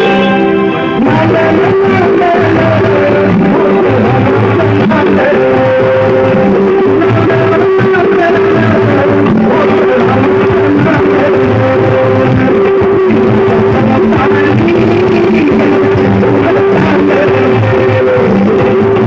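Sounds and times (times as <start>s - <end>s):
loud dance music with pulsing bass: 0.0s - 19.0s.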